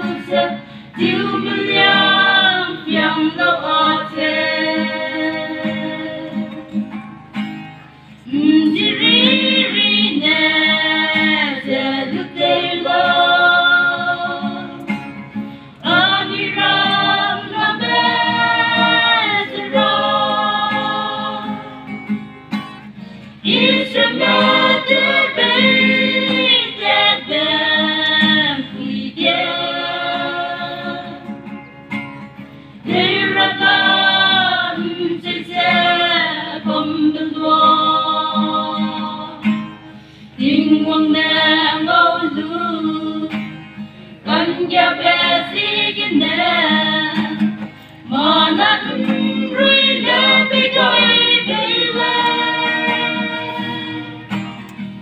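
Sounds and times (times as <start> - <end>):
choir singing gospel: 0.0 - 6.8, 8.3 - 15.1, 15.8 - 22.0, 23.4 - 31.4, 32.8 - 39.5, 40.4 - 43.6, 44.2 - 54.4.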